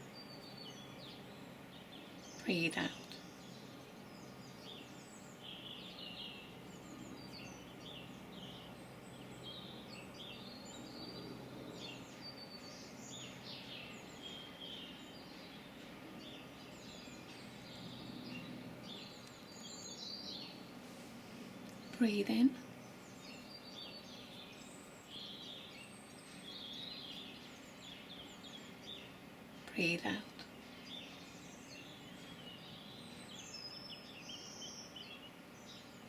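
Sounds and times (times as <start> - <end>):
faint steady background hum: 0.0 - 36.0
songbirds chirping and trilling: 0.0 - 36.0.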